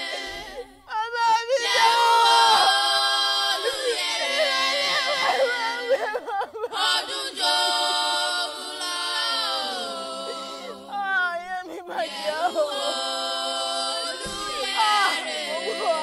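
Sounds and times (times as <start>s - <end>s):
person singing unaccompanied: 0.0s - 16.0s.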